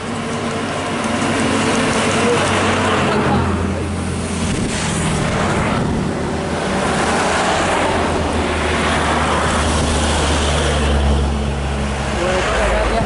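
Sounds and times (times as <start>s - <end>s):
truck engines humming: 0.0s - 13.0s
tyre noise of passing vehicles: 0.0s - 13.0s.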